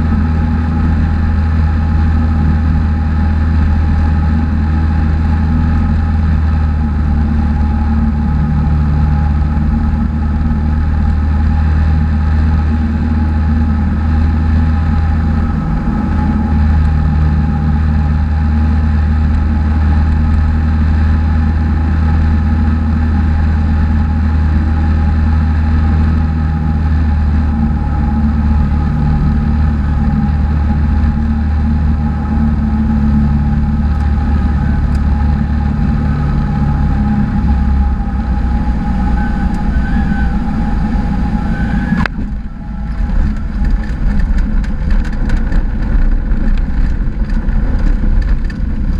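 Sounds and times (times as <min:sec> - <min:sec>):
propeller plane engine drone: 0:00.0 - 0:48.9.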